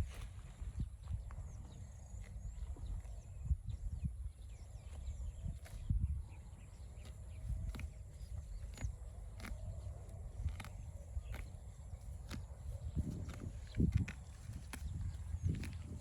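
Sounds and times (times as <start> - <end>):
low wind rumble: 0.0 - 16.0
small birds chirping: 0.0 - 16.0.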